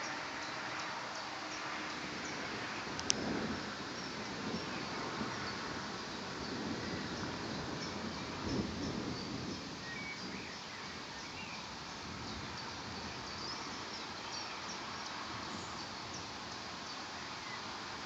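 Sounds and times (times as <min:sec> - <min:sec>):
outdoor hiss: 0:00.0 - 0:18.0.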